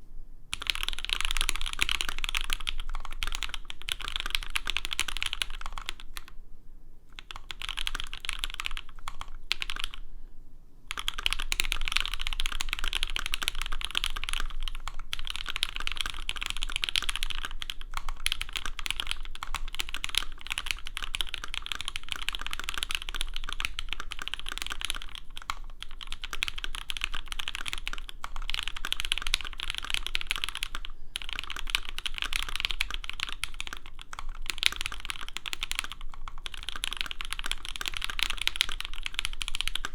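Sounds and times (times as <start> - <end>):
mechanical keyboard typing: 0.5 - 6.3, 7.2 - 10.0, 10.9 - 39.9.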